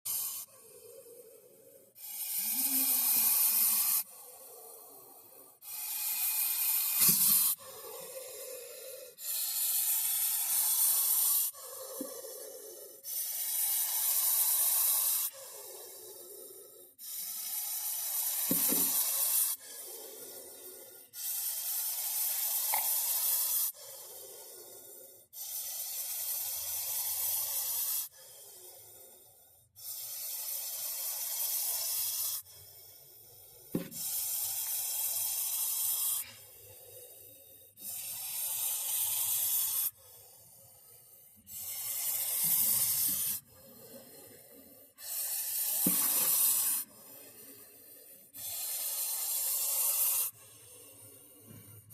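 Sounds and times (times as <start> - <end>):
snake hissing: 0.0 - 51.9.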